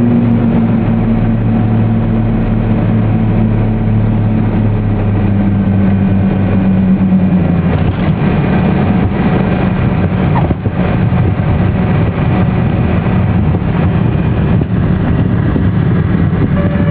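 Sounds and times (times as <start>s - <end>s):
propeller plane engines droning: 0.0s - 16.9s.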